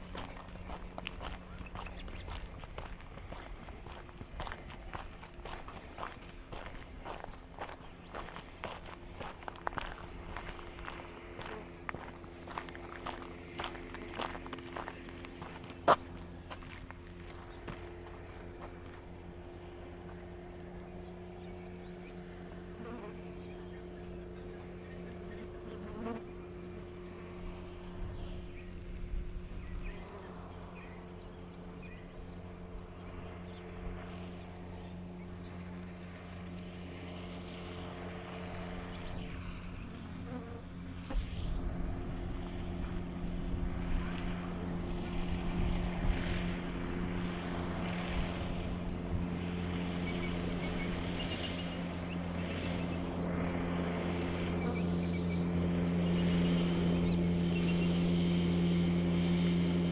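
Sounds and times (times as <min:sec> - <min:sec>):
mechanical hum: 0:00.0 - 0:59.9.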